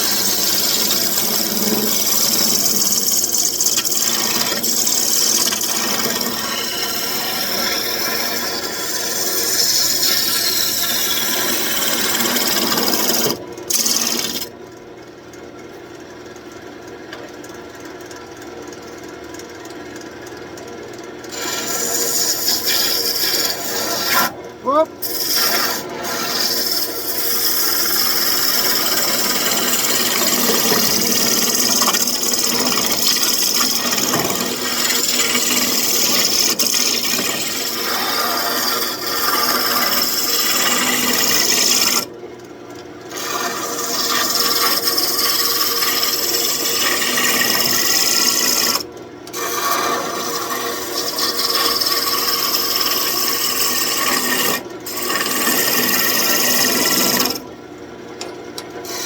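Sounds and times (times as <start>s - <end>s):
lathe tool shaving wood: 0.0s - 14.5s, 21.3s - 42.1s, 43.1s - 57.5s.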